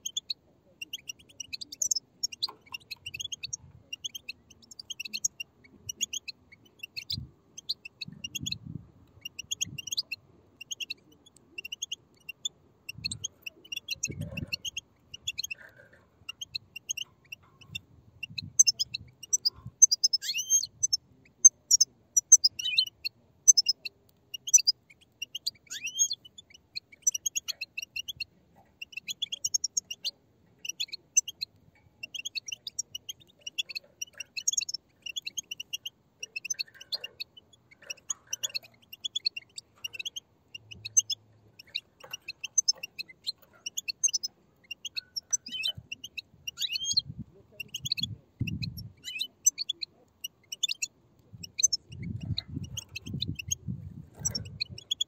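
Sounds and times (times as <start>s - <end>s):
bird chicks chirping: 0.0s - 55.0s.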